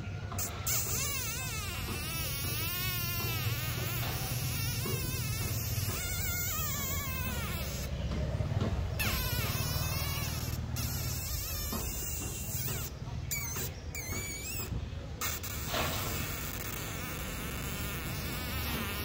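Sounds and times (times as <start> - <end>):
insect buzzing: 0.3 - 8.0, 9.0 - 19.0.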